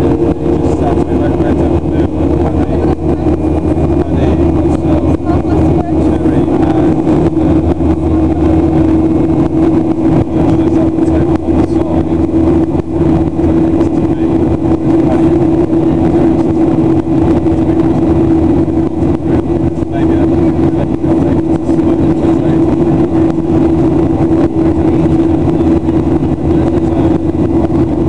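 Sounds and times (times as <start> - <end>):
airplane cabin engine drone: 0.0 - 28.0.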